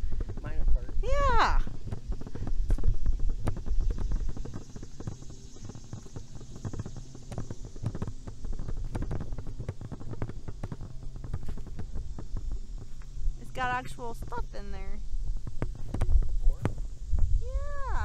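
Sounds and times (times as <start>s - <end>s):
footsteps: 0.0s - 18.0s
low steady hum: 0.0s - 18.0s.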